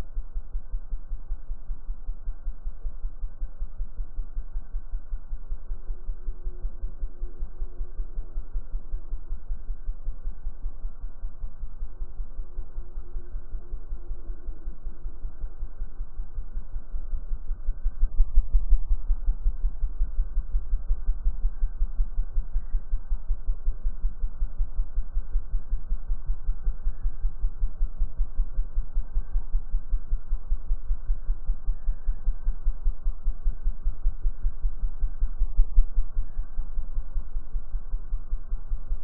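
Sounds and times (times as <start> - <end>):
slowed hummingbird wingbeats throbbing: 0.1 - 39.0.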